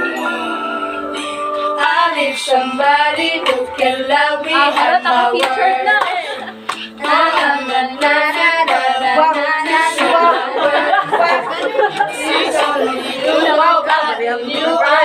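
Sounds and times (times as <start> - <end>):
musical accompaniment: 0.0 - 15.0
person singing: 0.0 - 15.0.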